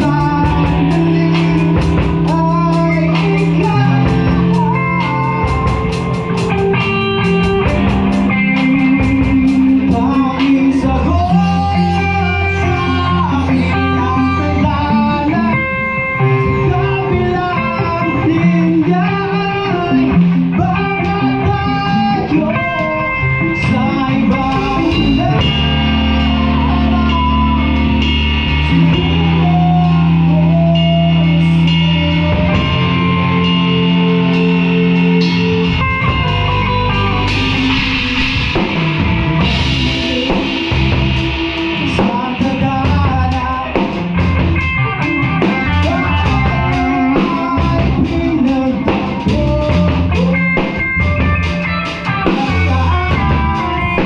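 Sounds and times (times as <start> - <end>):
bass guitar: 0.0 - 54.0
drums: 0.0 - 54.0
electric guitar: 0.0 - 54.0
person singing: 0.0 - 54.0.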